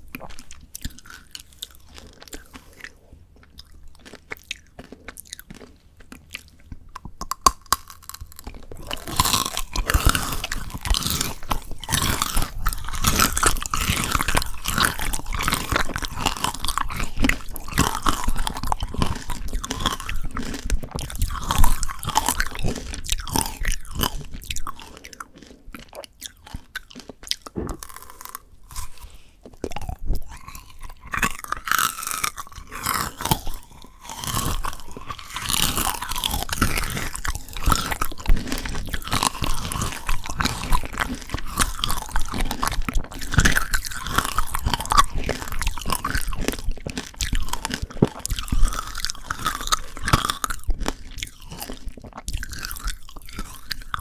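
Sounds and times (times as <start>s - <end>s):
crunching hard candy shell: 0.1s - 54.0s.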